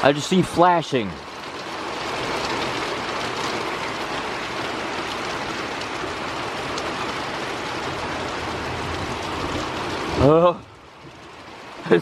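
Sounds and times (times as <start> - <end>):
rain pouring: 0.0 - 12.0.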